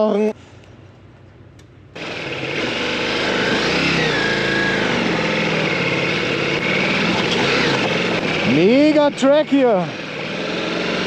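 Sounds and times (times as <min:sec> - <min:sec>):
motorcycle engine running: 0:02.0 - 0:11.0.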